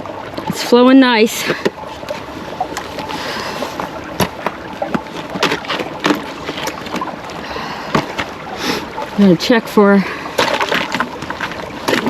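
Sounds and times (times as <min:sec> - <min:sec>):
mountain stream flowing: 0:00.0 - 0:12.0.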